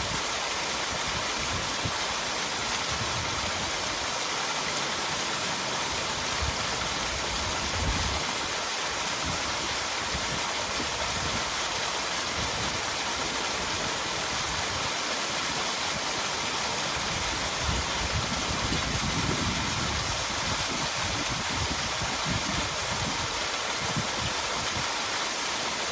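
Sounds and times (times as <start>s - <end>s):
small waterfall splashing: 0.0s - 25.9s.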